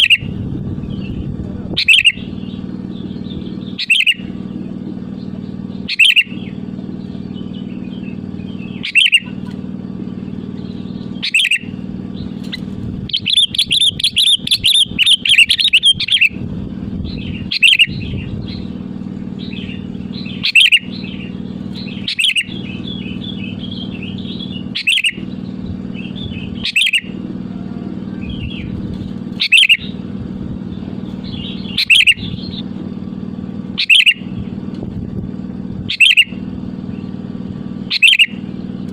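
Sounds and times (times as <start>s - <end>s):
bird calling: 0.0s - 16.4s, 17.0s - 32.8s, 33.6s - 34.6s, 35.8s - 37.2s, 37.8s - 38.8s
bird chattering notes: 0.0s - 27.2s, 28.1s - 30.1s, 30.7s - 32.7s, 33.7s - 34.6s, 35.9s - 36.4s, 37.8s - 38.5s
steady low hum: 0.0s - 38.9s.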